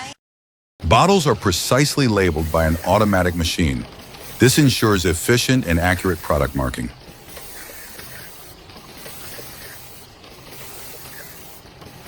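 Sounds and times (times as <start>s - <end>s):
labelling machine hissing: 0.9s - 12.0s.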